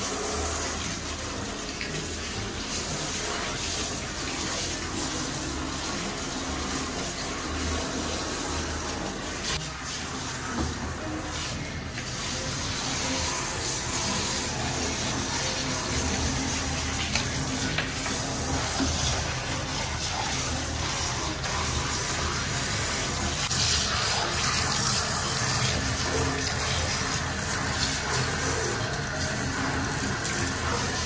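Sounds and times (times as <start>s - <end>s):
shower spraying water on plastic: 0.0s - 31.0s.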